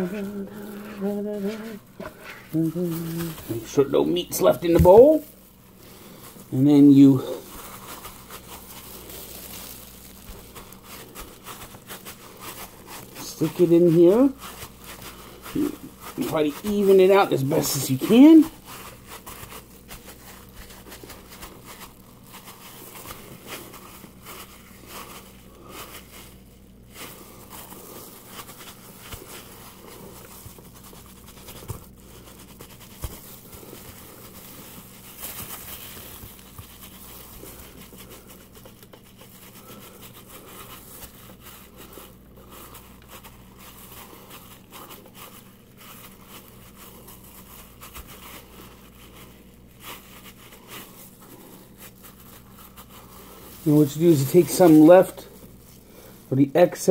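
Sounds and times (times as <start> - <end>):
gloves squishing and crinkling: 0.0 - 56.9
low steady hum: 0.0 - 56.9.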